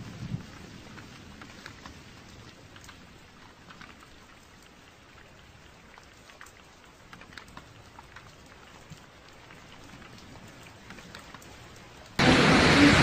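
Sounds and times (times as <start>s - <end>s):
raindrops ticking: 0.0s - 12.2s
rain falling: 0.0s - 13.0s.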